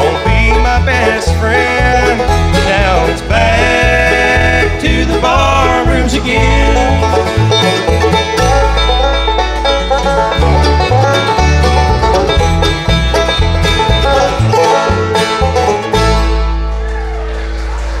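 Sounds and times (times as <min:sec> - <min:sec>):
bluegrass band playing: 0:00.0 - 0:18.0.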